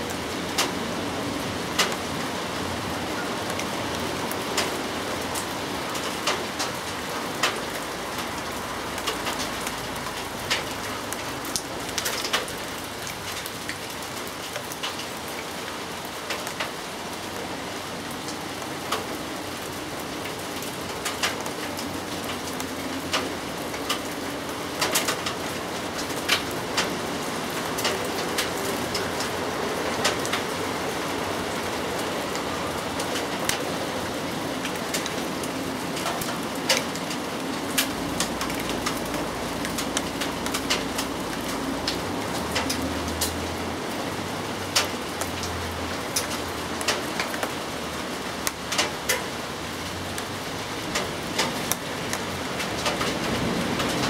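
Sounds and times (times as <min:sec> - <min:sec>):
raindrops tapping on a surface: 0:00.0 - 0:54.0
steady rain falling: 0:00.0 - 0:54.0.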